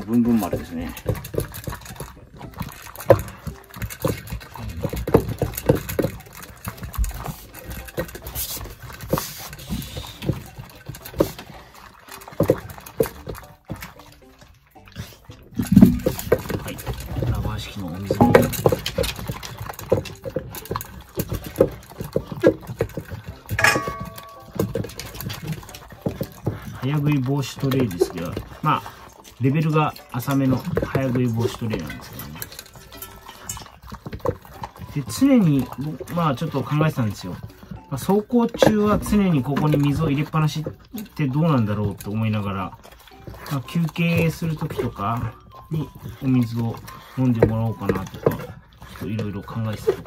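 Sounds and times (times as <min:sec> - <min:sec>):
dog crunching dry kibble: 0:00.0 - 0:50.0.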